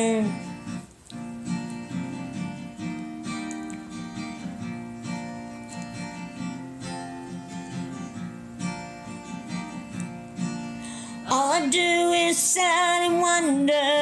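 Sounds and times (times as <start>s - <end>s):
strummed acoustic guitar chords: 0.0s - 14.0s.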